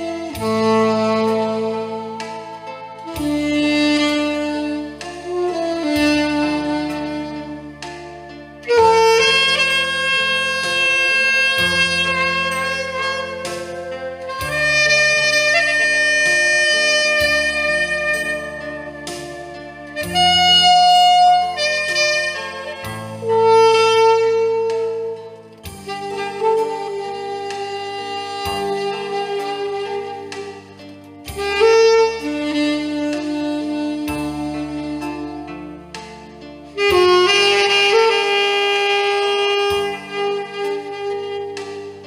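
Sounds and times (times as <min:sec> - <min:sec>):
saxophone playing slow melody: 0:00.0 - 0:42.0
sustained bass and chords: 0:00.0 - 0:42.0.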